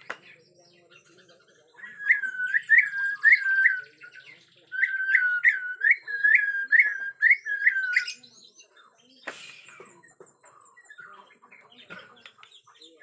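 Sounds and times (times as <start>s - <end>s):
bird singing whistled notes: 0.0s - 11.2s.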